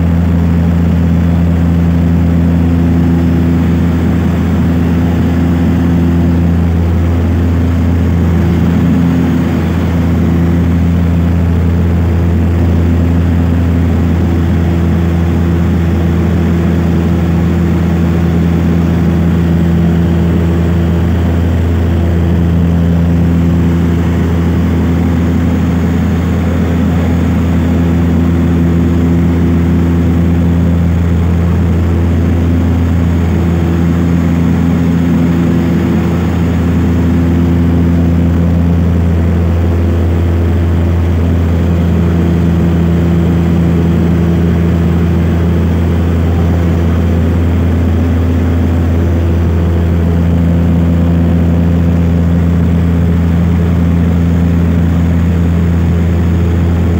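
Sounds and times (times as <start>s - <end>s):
propeller engines droning: 0.0s - 56.9s.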